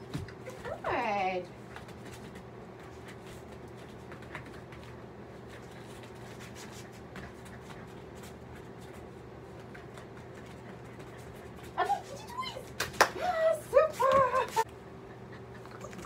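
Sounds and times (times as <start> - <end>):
dog paws tapping on foam mats: 0.0 - 14.8
steady low hum: 0.0 - 16.0.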